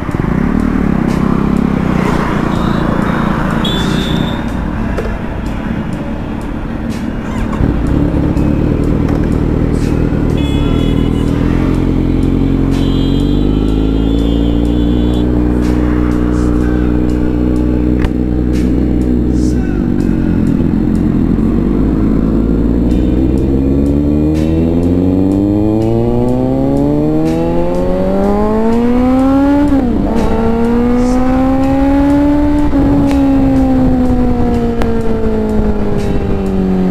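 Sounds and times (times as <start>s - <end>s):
motorcycle engine revving: 0.0s - 5.2s, 7.1s - 36.9s.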